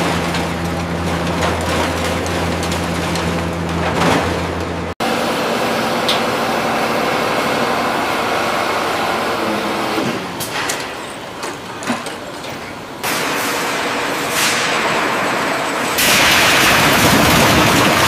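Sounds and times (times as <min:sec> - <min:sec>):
heavy machinery rumbling: 0:00.0 - 0:18.0.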